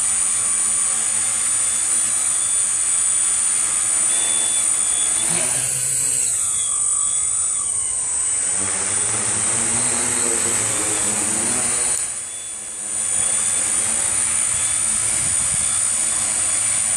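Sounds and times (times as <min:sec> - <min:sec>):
drone motors buzzing: 0:00.0 - 0:16.9.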